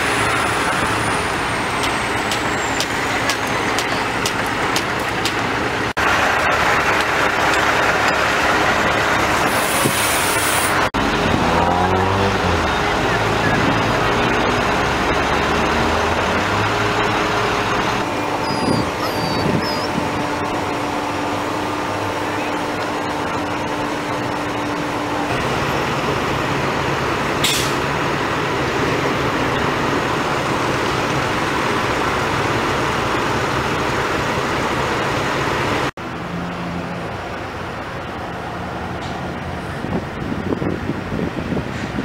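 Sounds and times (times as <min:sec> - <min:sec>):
diesel truck engines running: 0:00.0 - 0:42.0
outdoor noise: 0:00.0 - 0:42.0.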